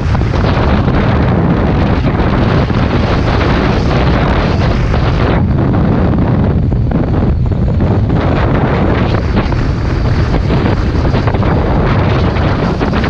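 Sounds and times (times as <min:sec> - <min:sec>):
speedboat engine: 0:00.0 - 0:13.0
wind buffeting on microphone: 0:00.0 - 0:13.0.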